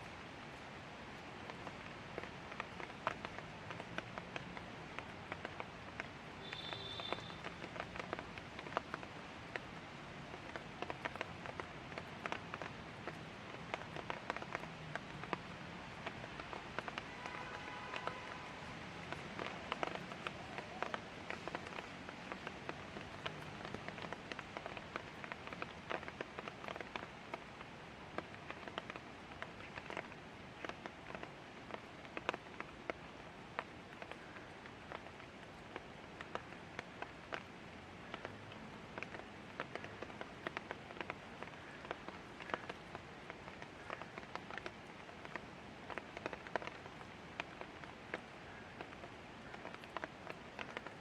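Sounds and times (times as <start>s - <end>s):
light rain falling: 0.0s - 51.0s
raindrops ticking on hard surfaces: 0.0s - 51.0s.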